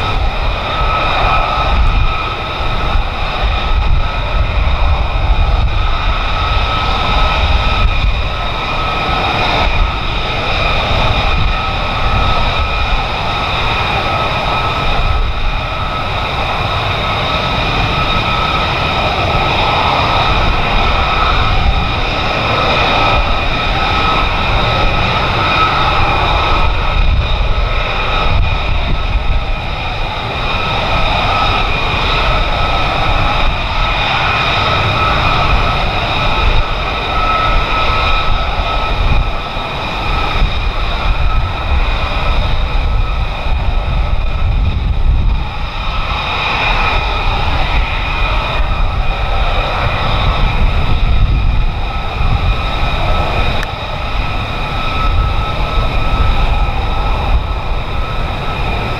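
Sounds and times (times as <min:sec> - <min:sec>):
jet engine running: 0:00.0 - 0:58.9.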